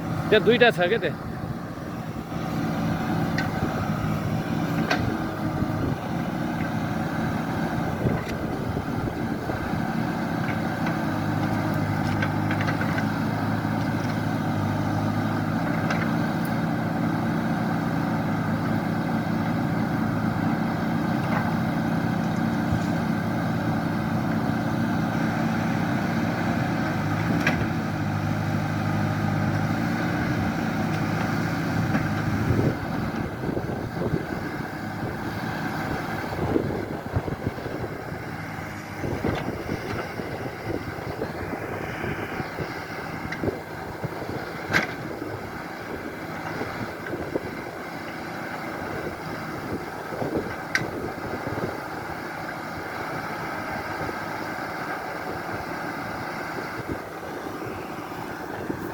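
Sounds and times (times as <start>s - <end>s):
engine running: 0.0s - 58.9s.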